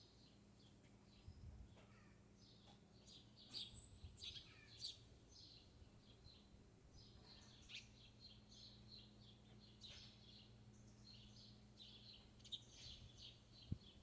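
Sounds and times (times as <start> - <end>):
faint small-bird chirps: 0.2 - 14.0.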